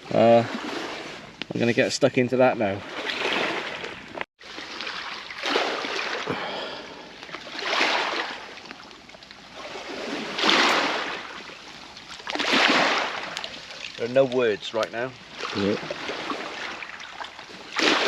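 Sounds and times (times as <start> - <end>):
small waves breaking on shore: 0.0 - 1.4, 2.8 - 18.0.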